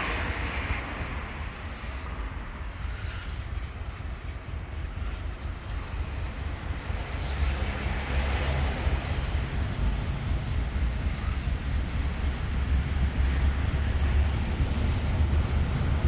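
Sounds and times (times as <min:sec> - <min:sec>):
broad rushing noise: 0:00.0 - 0:16.0
diesel locomotive engine rumbling: 0:00.0 - 0:16.0.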